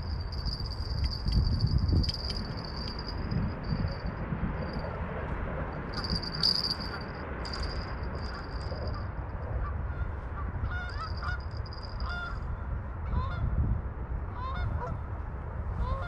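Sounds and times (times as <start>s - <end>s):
steady low rumble: 0.0s - 15.9s.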